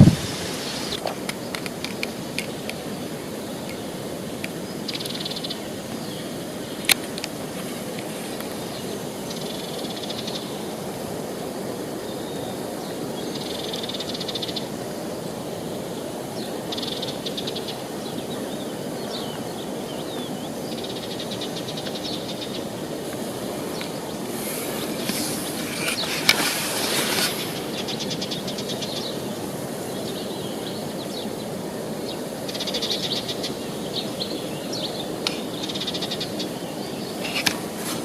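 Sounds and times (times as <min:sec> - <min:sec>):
river running: 0:00.0 - 0:38.0.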